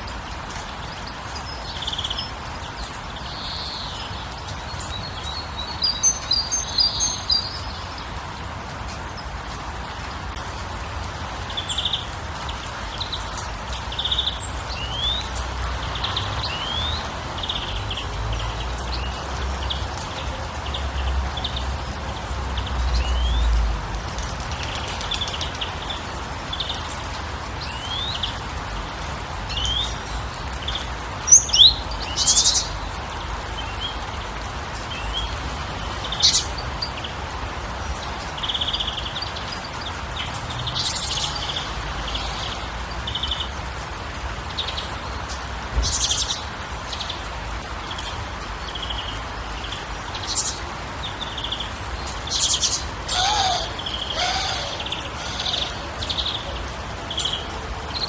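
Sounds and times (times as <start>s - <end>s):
small birds chirping: 11.3s - 58.0s.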